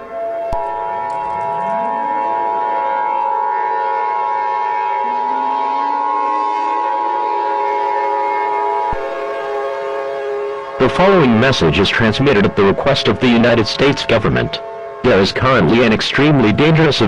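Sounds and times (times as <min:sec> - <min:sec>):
low rising wails: 0:00.0 - 0:17.0
two-tone alarm: 0:00.0 - 0:17.0.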